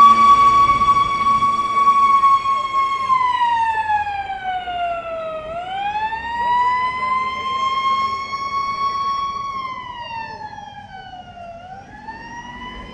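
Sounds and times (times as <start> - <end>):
fire engine siren wailing: 0.0 - 12.9.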